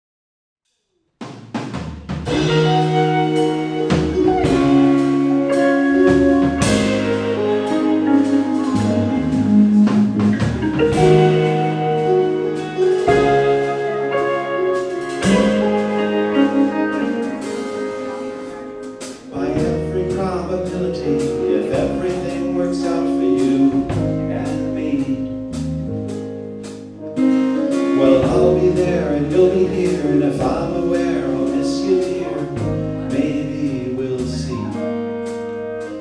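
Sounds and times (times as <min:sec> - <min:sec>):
live band instrumental: 0:01.2 - 0:36.0.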